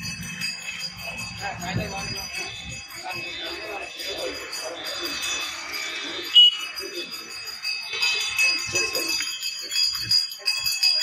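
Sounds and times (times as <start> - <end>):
small bells jingling: 0.0 - 11.0
steady high ringing: 0.0 - 11.0.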